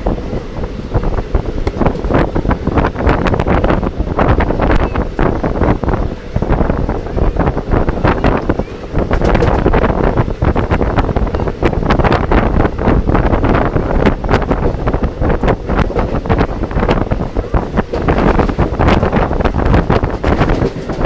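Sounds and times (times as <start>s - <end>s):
train running rumble: 0.0s - 21.0s
wind buffeting microphone: 0.0s - 21.0s.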